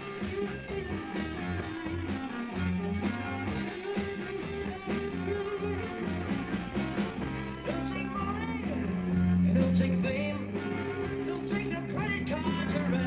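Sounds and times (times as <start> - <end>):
live rock and roll band: 0.0 - 13.0.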